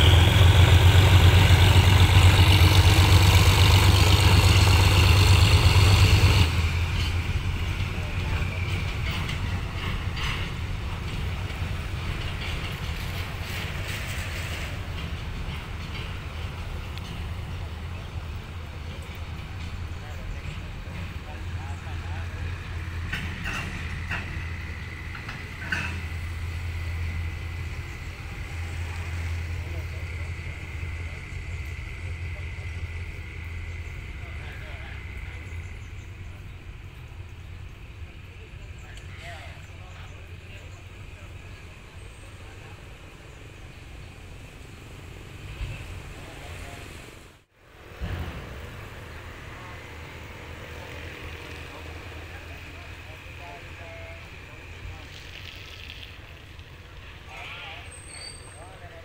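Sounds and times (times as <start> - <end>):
diesel locomotive engine humming: 0.0 - 59.0
railway yard rumble and hiss: 0.0 - 59.0.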